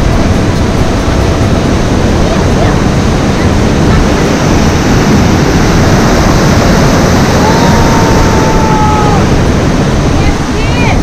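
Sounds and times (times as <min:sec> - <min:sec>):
water rushing under sluice gate: 0:00.0 - 0:11.0
wind on microphone: 0:00.0 - 0:11.0.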